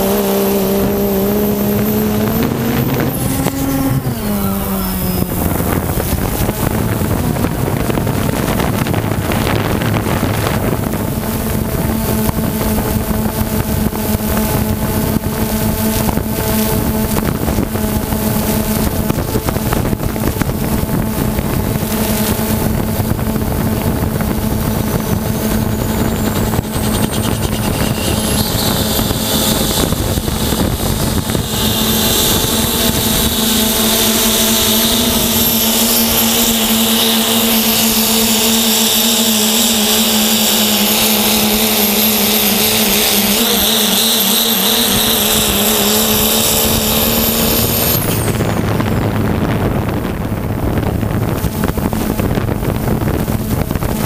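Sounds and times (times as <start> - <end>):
diesel truck engine at full power: 0.0 - 54.0
drone propellers humming: 0.0 - 54.0
high turbo whine: 0.0 - 54.0.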